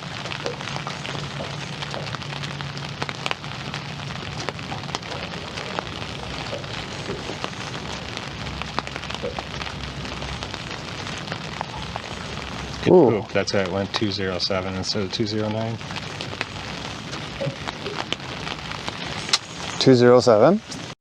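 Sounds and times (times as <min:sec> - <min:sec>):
low hum: 0:00.0 - 0:19.8
dense crackling with ticks: 0:00.0 - 0:21.0.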